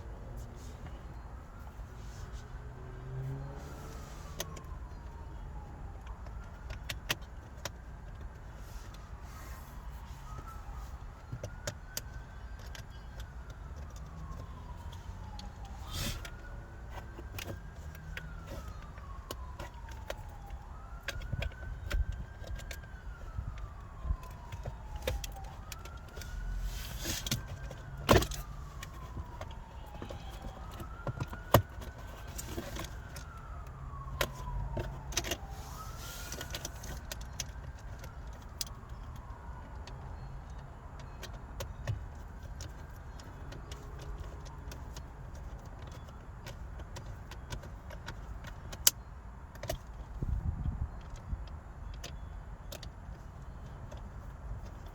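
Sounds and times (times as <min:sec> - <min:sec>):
faint siren wailing: 0:00.0 - 0:54.9.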